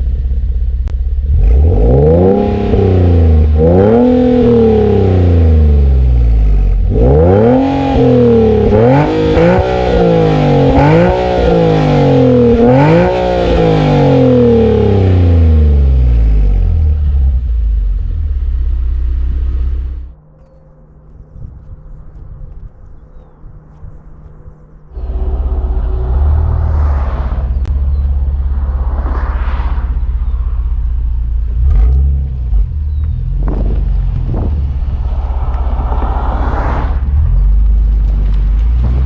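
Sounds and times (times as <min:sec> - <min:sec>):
car engine revving and idling: 0:00.0 - 0:20.2, 0:21.1 - 0:39.0.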